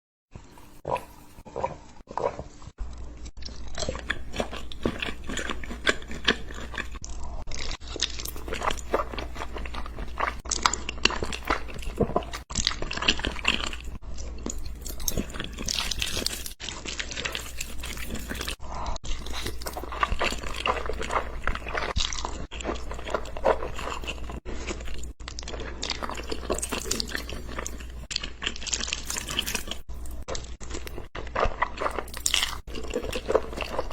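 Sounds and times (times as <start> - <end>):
person chewing crisp food: 0.3 - 33.9.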